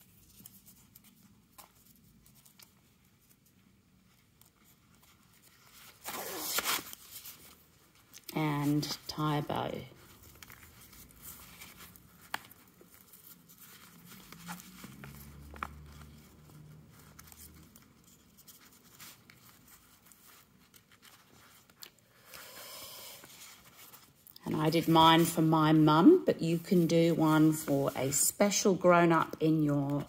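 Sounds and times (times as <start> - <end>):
ribbon and card rustling: 0.0 - 22.6, 23.2 - 30.0.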